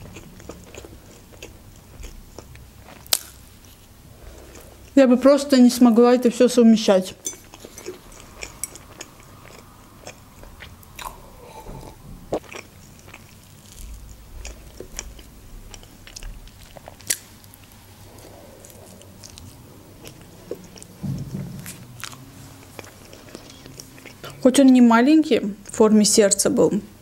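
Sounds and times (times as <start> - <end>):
person chewing: 0.0 - 5.0, 7.2 - 24.4.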